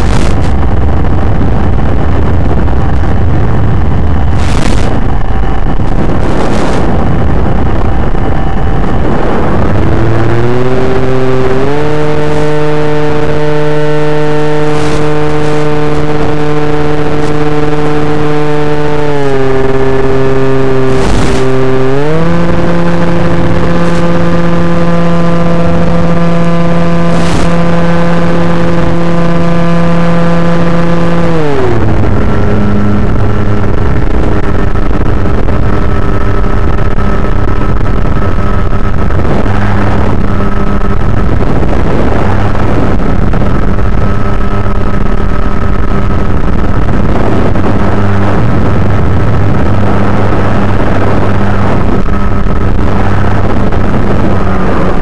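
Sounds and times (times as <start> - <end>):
electric motor and propeller droning: 0.0 - 55.0
wind noise: 0.0 - 55.0.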